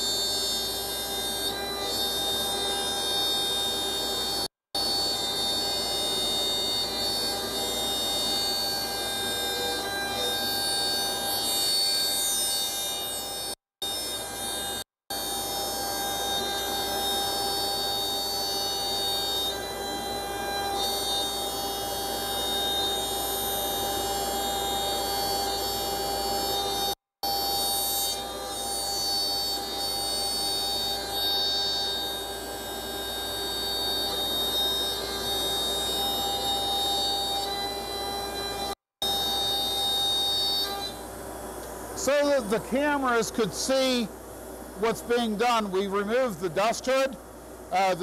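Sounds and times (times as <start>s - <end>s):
router bit cutting wood: 0.0s - 44.0s
router spindle whine: 0.0s - 48.0s.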